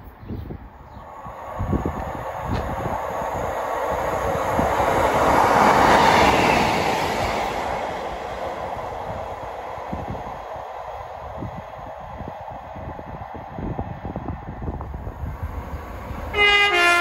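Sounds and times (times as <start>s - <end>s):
train passing: 0.6s - 17.0s.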